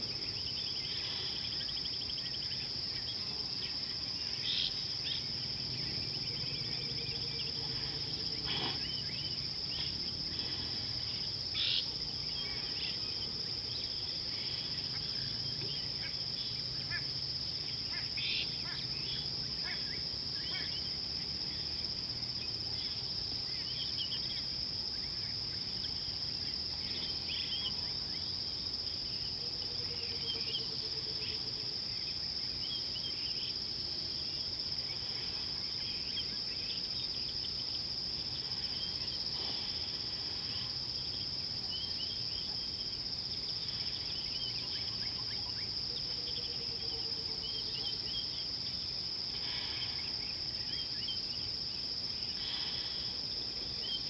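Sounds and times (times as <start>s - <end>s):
high-pitched insect trill: 0.0s - 54.0s.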